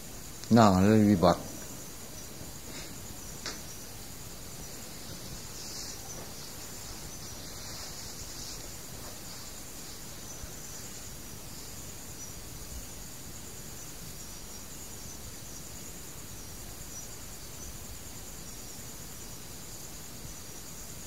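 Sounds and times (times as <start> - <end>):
insects chirring: 0.0 - 21.0
low background hiss: 0.0 - 21.0.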